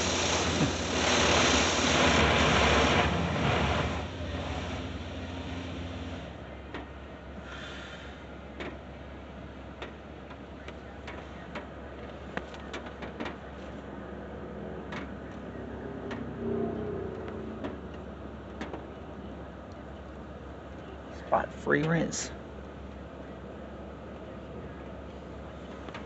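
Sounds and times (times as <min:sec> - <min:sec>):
car wash low hum: 0:00.0 - 0:26.0.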